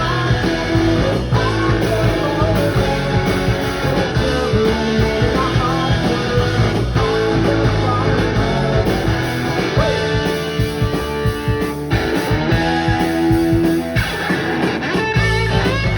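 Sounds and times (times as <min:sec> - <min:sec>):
rock band playing live: 0:00.0 - 0:15.9.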